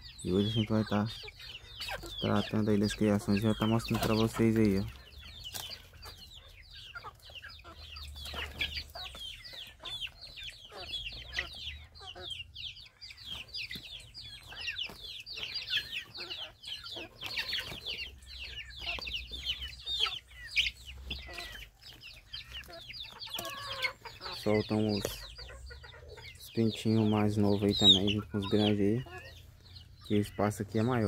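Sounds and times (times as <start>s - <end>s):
chickens clucking: 0.0s - 31.0s
chicks peeping: 0.0s - 31.0s.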